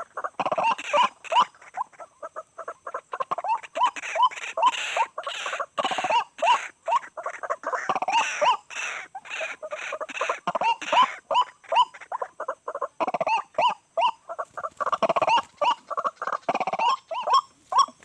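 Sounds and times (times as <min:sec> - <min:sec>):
waterhen harsh calls: 0:00.0 - 0:18.0.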